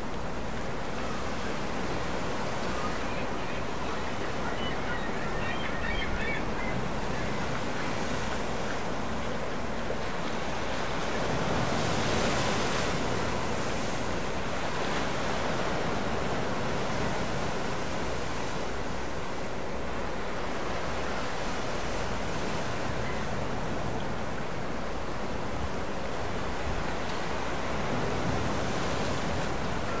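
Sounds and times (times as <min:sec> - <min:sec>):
lake waves rushing: 0:00.0 - 0:30.0.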